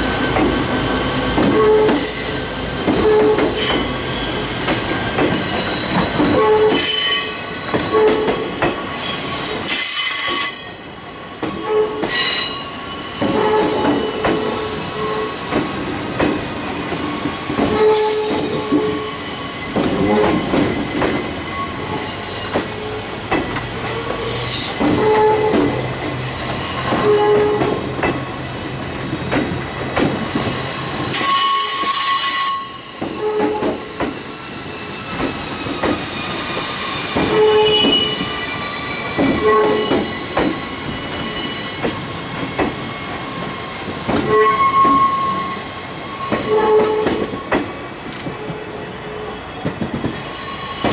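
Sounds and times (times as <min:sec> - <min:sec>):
train wheels squealing on curve: 0:00.0 - 0:15.8, 0:16.6 - 0:28.8, 0:30.2 - 0:48.0, 0:48.7 - 0:50.9.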